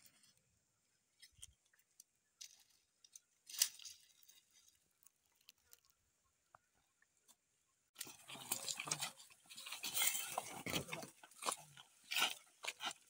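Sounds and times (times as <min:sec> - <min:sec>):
rustling of dry grass and leaves: 0:00.0 - 0:06.1, 0:08.0 - 0:13.0.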